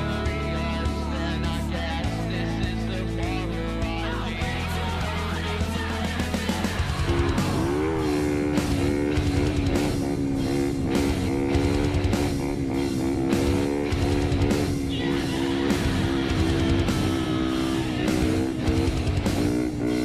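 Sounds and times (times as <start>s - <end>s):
rock music with guitars: 0.0s - 20.0s
steady drum beat: 0.0s - 20.0s.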